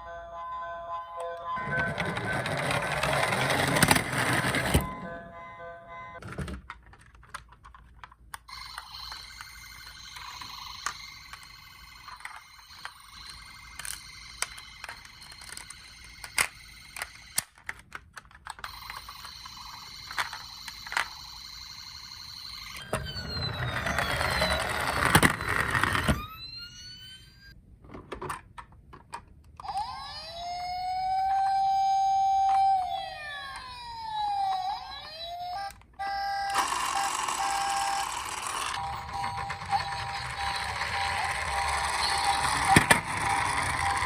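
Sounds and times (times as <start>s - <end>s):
toy siren winding up: 1.3s - 5.0s, 8.4s - 17.6s, 18.5s - 27.6s, 29.6s - 44.0s.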